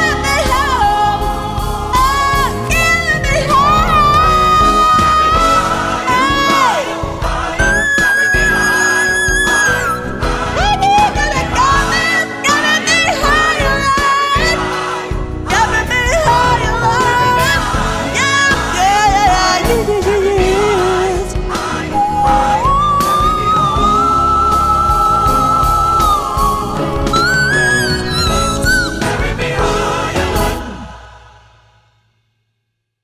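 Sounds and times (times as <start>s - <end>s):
backing music: 0.0s - 31.8s.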